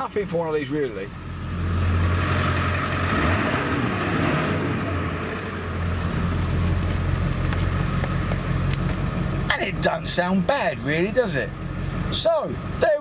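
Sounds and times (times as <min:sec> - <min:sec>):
diesel truck engine droning: 0:00.0 - 0:13.0.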